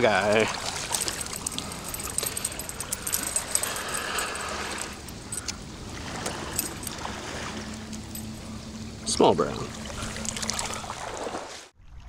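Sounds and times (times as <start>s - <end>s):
stream water rushing: 0.0s - 11.7s.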